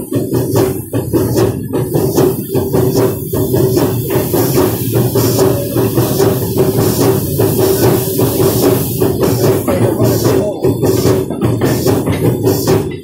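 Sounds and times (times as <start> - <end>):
steam train running drone: 0.0 - 13.0.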